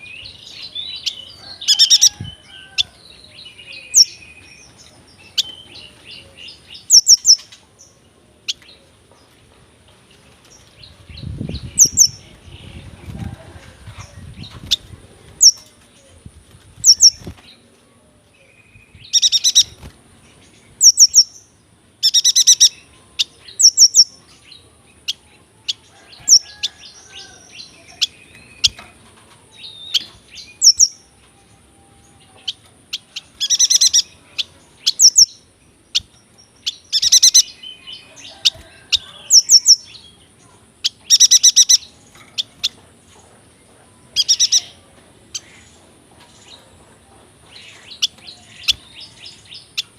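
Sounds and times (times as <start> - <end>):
bird chirping: 0.0 - 9.4, 10.5 - 13.0, 16.8 - 17.4, 18.4 - 49.9.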